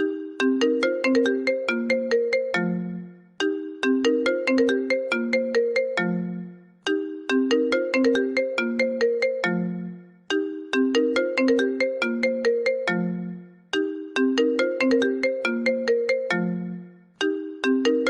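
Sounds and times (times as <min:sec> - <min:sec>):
phone ringtone melody: 0:00.0 - 0:18.0.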